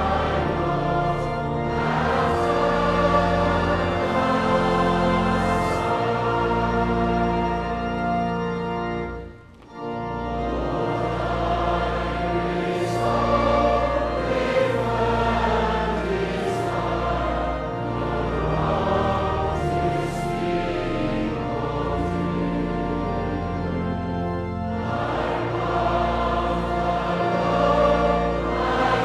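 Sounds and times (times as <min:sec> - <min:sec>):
congregation singing a hymn: 0:00.0 - 0:29.0
organ: 0:00.0 - 0:29.0.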